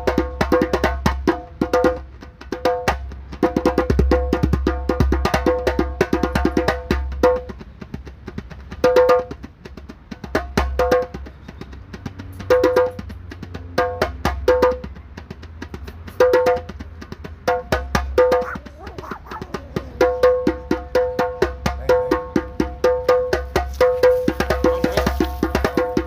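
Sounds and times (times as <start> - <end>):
djembe played by hand: 0.0 - 26.0.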